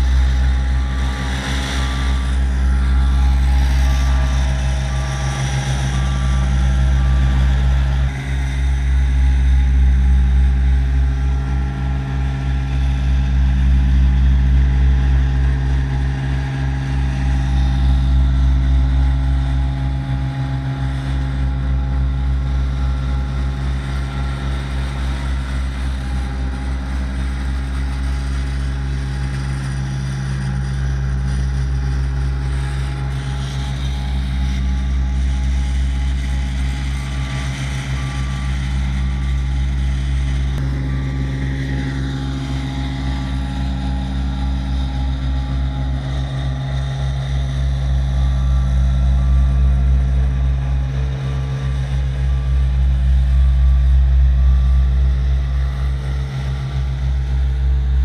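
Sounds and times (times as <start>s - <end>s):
road roller diesel engine: 0.0s - 58.0s.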